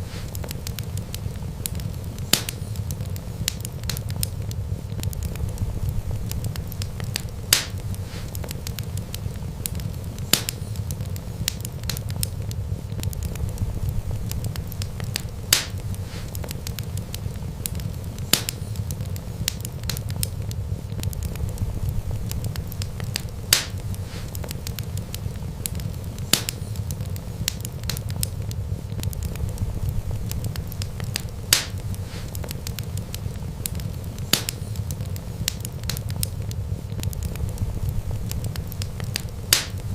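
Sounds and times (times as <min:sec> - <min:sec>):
fire popping loudly: 0:00.0 - 0:39.9
wood fire crackling: 0:00.0 - 0:39.9.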